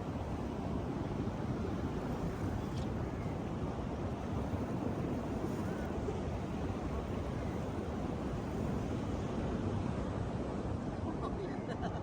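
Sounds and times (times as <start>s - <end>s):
surf washing on beach: 0.0s - 11.9s.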